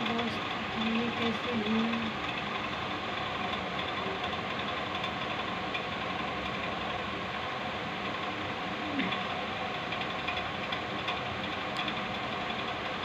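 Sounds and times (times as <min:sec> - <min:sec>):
steady mechanical drone: 0:00.0 - 0:13.0.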